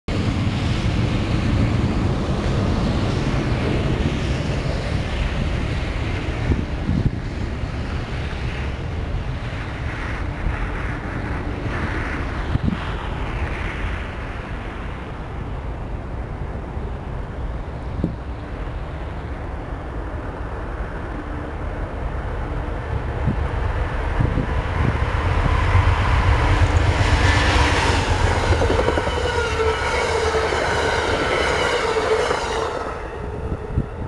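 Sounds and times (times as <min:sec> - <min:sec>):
diesel train passing: 0:00.1 - 0:34.0.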